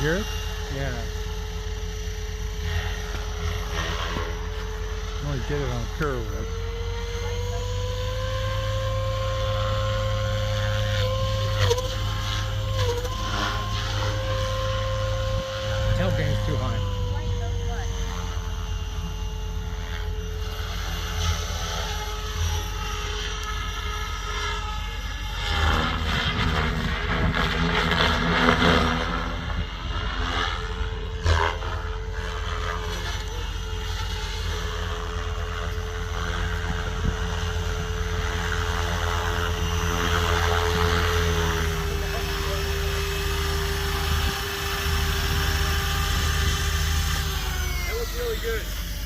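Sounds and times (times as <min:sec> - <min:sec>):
rc helicopter rotor whine: 0:00.0 - 0:49.0.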